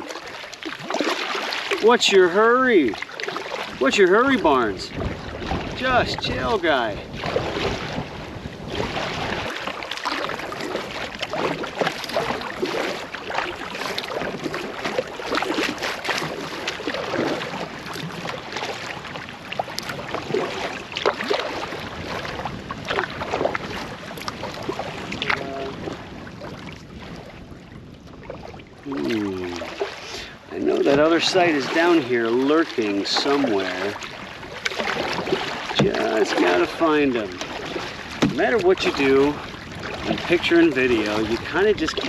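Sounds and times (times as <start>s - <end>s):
paddle strokes in water: 0.0s - 42.0s.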